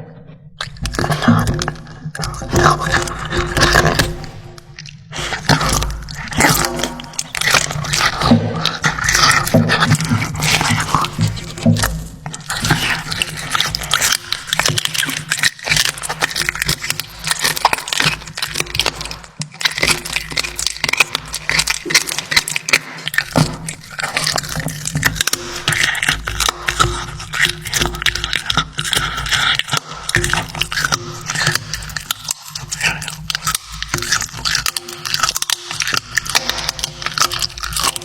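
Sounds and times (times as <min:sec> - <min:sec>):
cat chewing and crunching food: 0:00.5 - 0:38.0.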